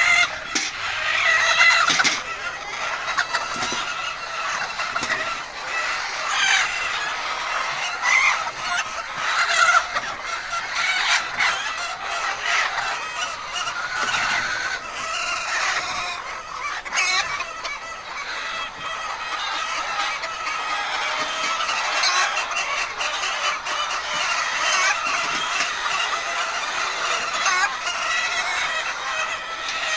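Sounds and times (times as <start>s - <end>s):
hens clucking: 0.0s - 29.9s.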